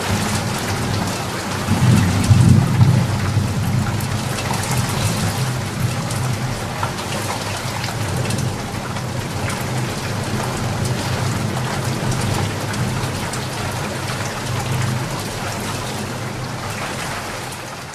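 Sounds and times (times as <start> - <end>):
heavy rain falling: 0.0 - 17.9.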